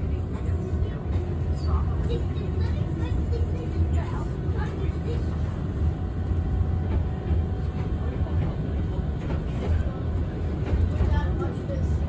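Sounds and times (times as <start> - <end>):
streetcar rumbling on rails: 0.0 - 12.0.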